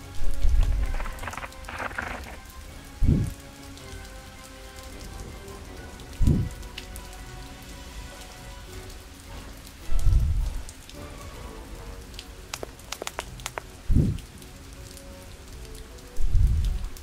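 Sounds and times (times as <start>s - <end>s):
steady rain pattering: 0.0s - 17.0s.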